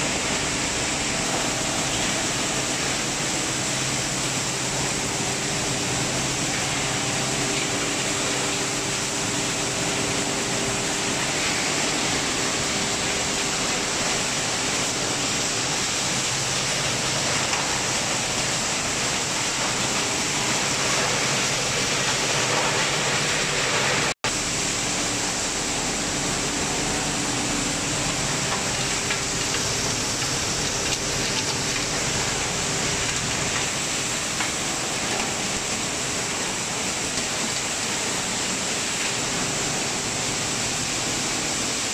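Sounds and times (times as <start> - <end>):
rushing splashing water: 0.0 - 41.9.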